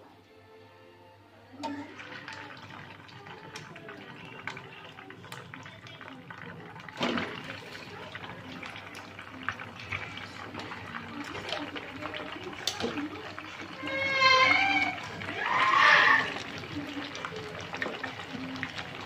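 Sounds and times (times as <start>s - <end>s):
water running and splashing: 1.6s - 19.0s.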